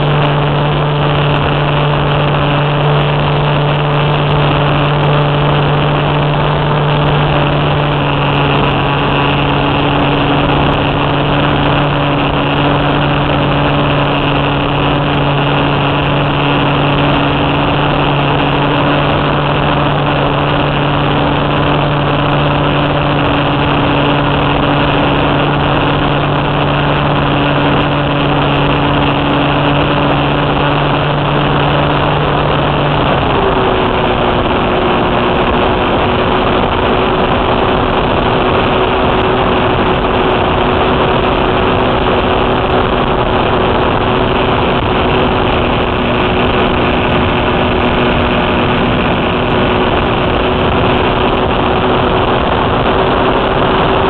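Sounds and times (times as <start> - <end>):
rush of air: 0.0 - 54.0
small airplane engine: 0.0 - 54.0.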